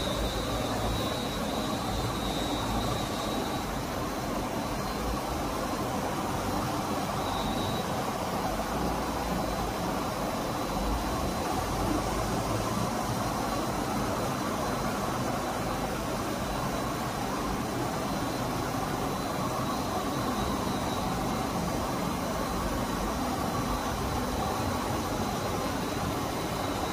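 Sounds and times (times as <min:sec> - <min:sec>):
faint high whine: 0:00.0 - 0:26.9.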